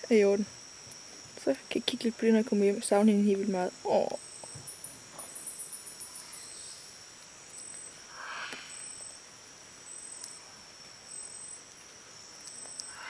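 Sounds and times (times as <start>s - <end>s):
insects buzzing at high pitch: 0.0s - 13.0s.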